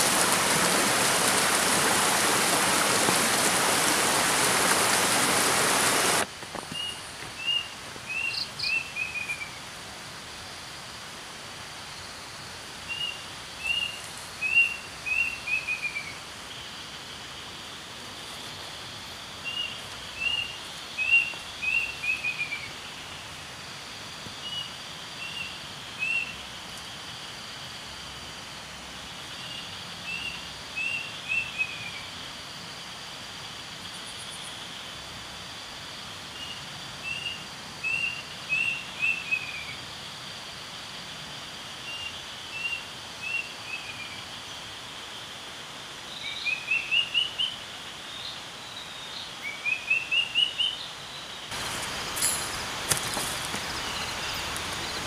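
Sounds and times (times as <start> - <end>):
forest background noise: 0.0 - 55.0.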